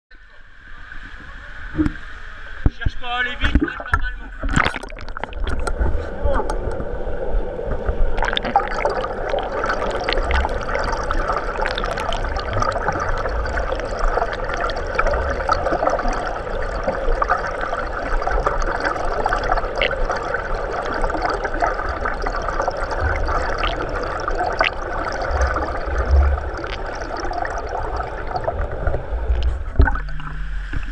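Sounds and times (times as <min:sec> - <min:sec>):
underwater rush and bubbling: 0:03.4 - 0:30.9.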